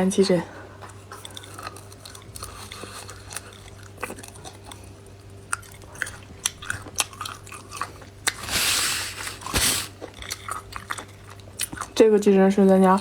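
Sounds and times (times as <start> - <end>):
chewing crunchy food: 0.7 - 13.0.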